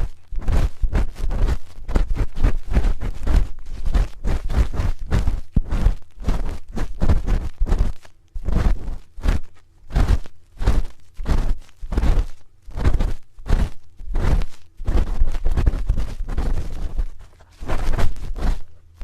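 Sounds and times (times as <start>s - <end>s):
spoon scraping microphone: 0.0s - 18.8s.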